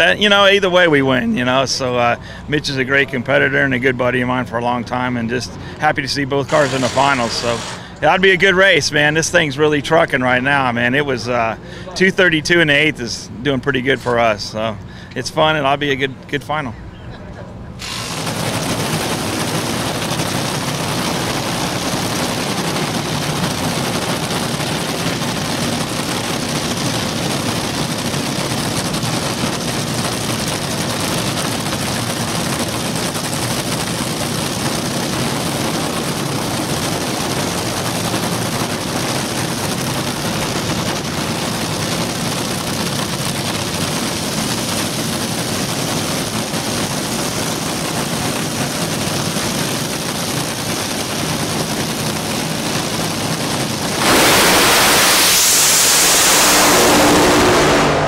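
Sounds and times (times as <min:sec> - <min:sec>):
drag racing engines idling: 0:00.0 - 0:58.0.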